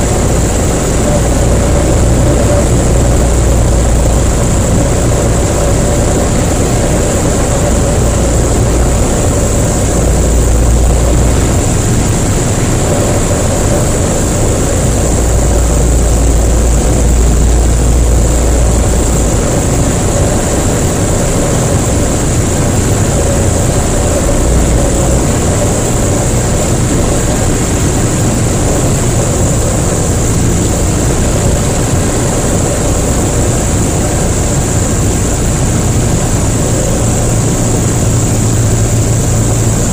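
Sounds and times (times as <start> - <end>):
light aircraft engine and propeller: 0.0 - 39.9
turbulence buffeting rumble: 0.0 - 39.9.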